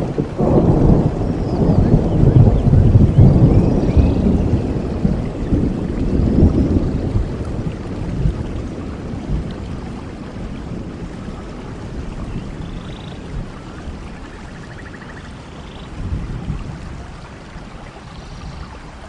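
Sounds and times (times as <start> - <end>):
rain falling: 0.0 - 19.0
thunder rumble: 0.0 - 19.0.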